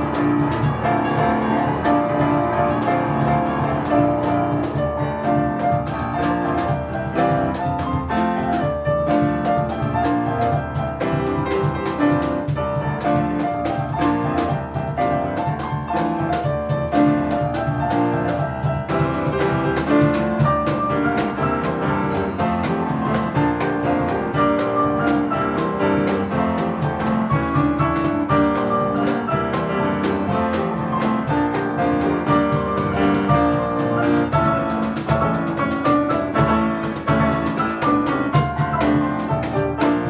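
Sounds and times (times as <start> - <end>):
fast piano piece: 0.0 - 40.0
rapid percussion: 0.0 - 40.0.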